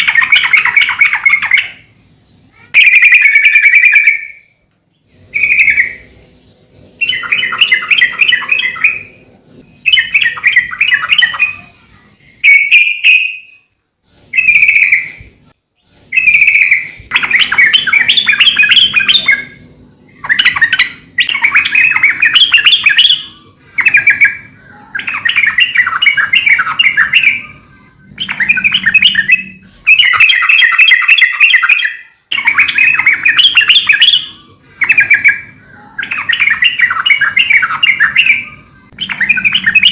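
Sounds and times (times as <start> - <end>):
bird bubbly chattering song: 0.0 - 1.9, 2.5 - 4.5, 5.1 - 13.7, 14.3 - 15.3, 16.1 - 39.9
clear whistled bird notes: 2.5 - 13.7, 14.3 - 39.9.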